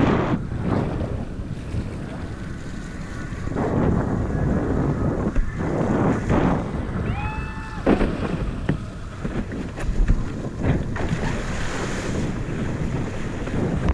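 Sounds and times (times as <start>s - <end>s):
water rushing and splashing: 0.0s - 13.9s
wind buffeting microphone: 0.0s - 13.9s.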